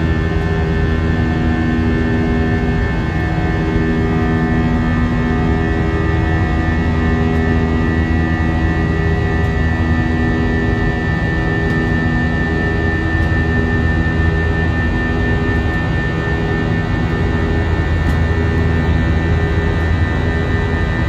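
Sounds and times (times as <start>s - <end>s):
high-pitched engine whine: 0.0s - 21.0s
jet engine cabin rumble: 0.0s - 21.0s.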